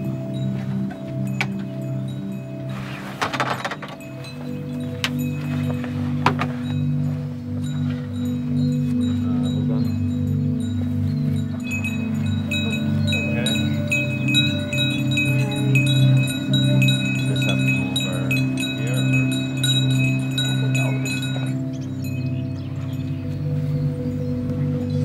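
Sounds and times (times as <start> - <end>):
cowbells clanking: 0.0 - 23.6
steady low hum: 0.0 - 25.0.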